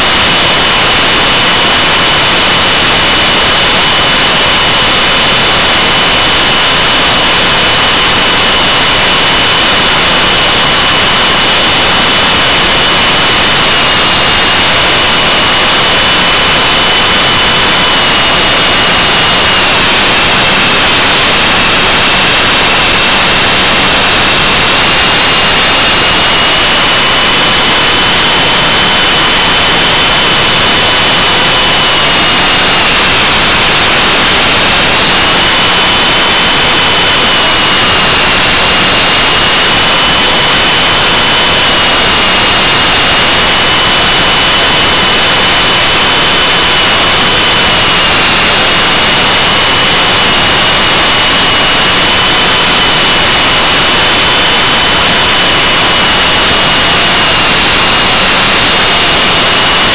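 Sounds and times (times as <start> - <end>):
high motor whine: 0.0 - 59.9
rc helicopter rotor and motor: 0.0 - 59.9.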